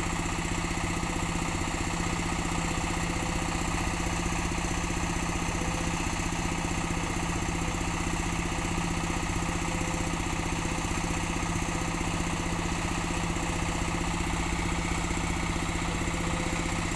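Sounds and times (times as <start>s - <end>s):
excavator diesel engine idling: 0.0s - 16.9s.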